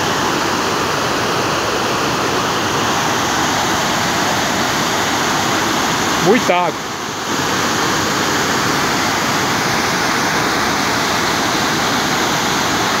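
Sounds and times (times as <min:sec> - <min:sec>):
waterfall torrent rushing: 0:00.0 - 0:13.0.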